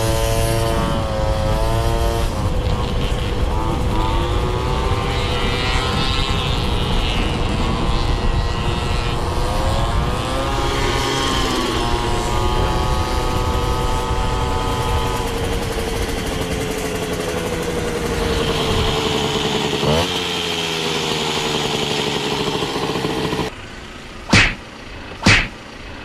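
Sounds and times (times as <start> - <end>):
moped engines revving: 0.0 - 26.0.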